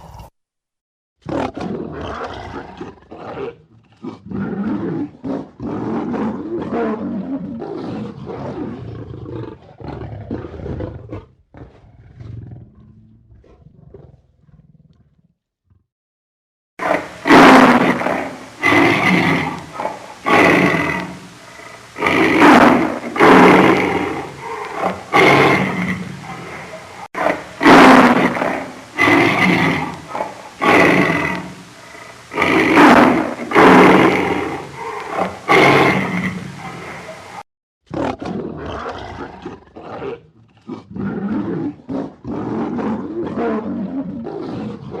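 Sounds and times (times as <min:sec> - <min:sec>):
lion roaring: 0:01.2 - 0:15.3, 0:16.8 - 0:45.0.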